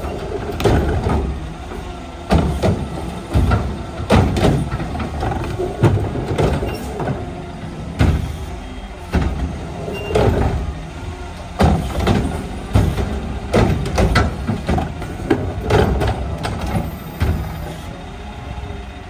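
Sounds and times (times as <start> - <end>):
bangs and clunks of trash cart: 0.0 - 10.8, 11.5 - 17.8
garbage truck humming: 0.0 - 19.0.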